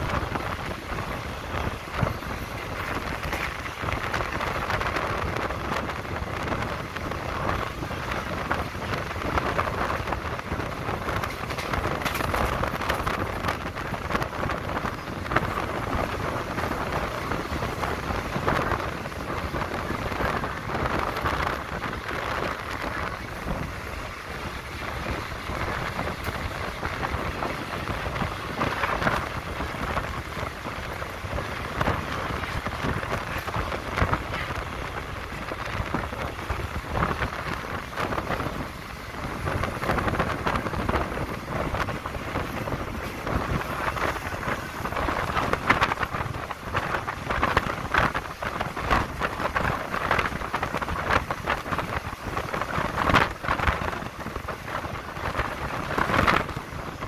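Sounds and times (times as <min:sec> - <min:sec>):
moving train rumbling: 0:00.0 - 0:57.0
wind buffeting microphone: 0:00.0 - 0:57.0.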